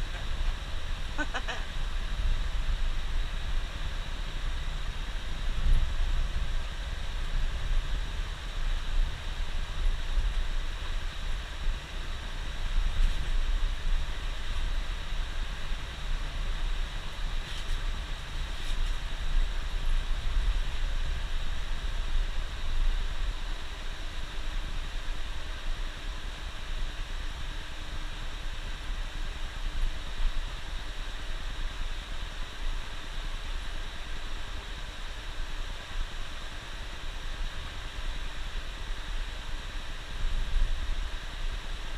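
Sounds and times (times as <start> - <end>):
bus engine and road rumble: 0.0 - 41.9
continuous hiss: 0.0 - 41.9.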